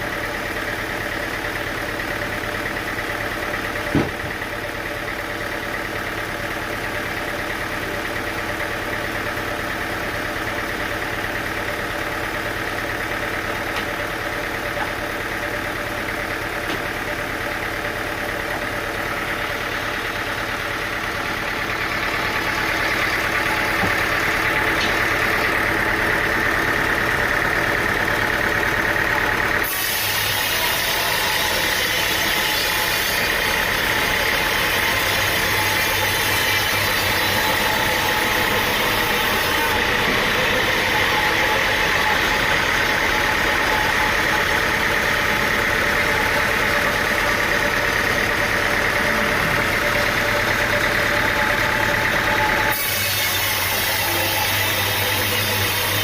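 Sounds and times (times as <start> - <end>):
engine humming: 0.0 - 52.8.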